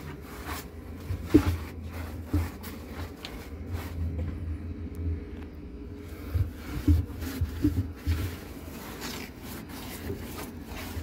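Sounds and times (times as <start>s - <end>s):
wet towel scrubbing bricks: 0.0s - 4.5s, 6.0s - 11.0s
steady low hum: 0.0s - 11.0s.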